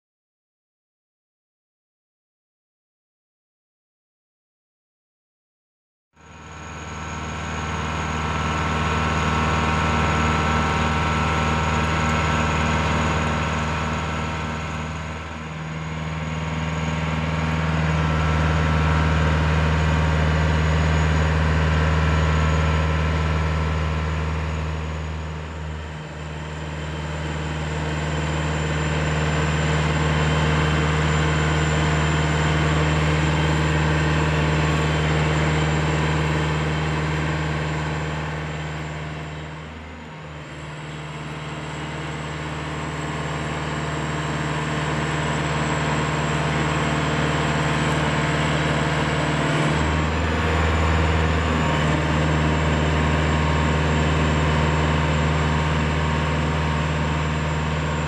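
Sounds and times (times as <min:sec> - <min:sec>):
diesel engine of boom lift: 0:06.2 - 0:58.0.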